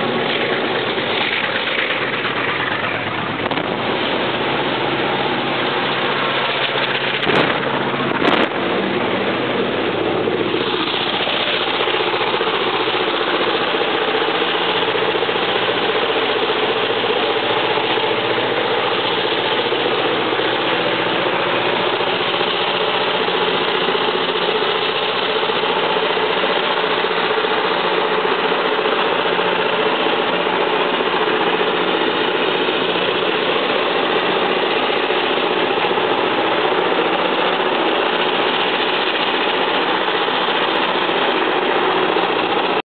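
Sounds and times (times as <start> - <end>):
locomotive engine throb: 0.0 - 42.8.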